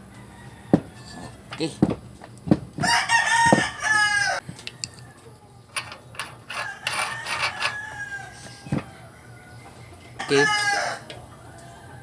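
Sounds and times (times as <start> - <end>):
rooster crowing: 0.0 - 1.4, 2.8 - 12.0.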